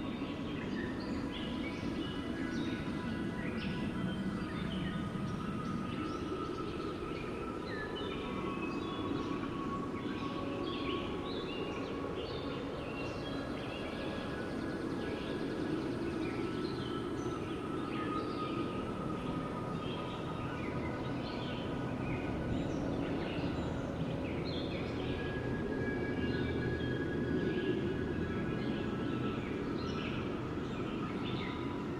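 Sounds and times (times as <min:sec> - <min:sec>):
wind: 0:00.0 - 0:31.9.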